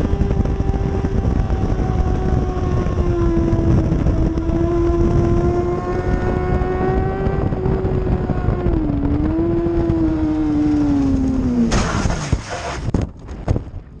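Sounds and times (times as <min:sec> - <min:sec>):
motorcycle engine revving high: 0:00.0 - 0:12.9.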